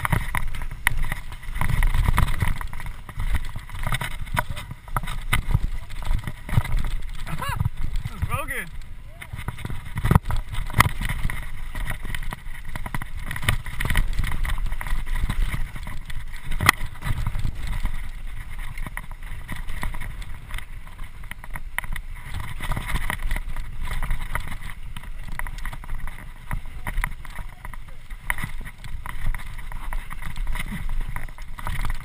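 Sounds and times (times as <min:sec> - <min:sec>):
bike rattling and knocking: 0:00.0 - 0:32.0
bike tyres rumbling on dirt: 0:00.0 - 0:32.0
wind on microphone: 0:00.0 - 0:32.0.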